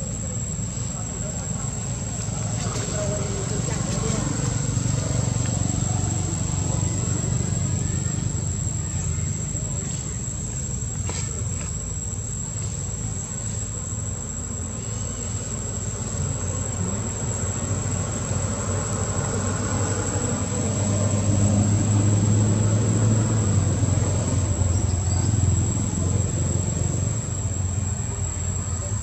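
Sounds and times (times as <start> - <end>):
high-pitched insect drone: 0.0 - 29.0
vehicle engine rumble: 0.0 - 29.0.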